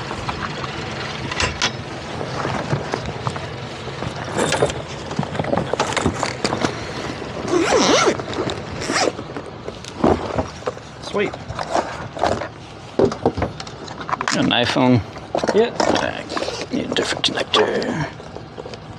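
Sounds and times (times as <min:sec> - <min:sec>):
scraping rustle: 0:02.2 - 0:17.5.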